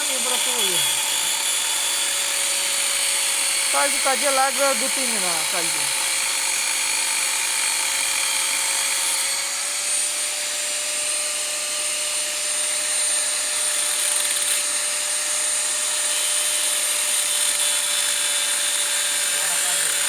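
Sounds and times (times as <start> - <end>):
electric power tool whining: 0.0 - 20.0.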